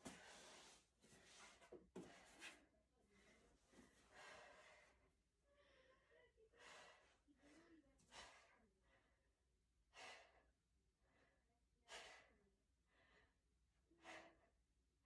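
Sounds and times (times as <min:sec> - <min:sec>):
woman breathing: 0:00.0 - 0:14.8.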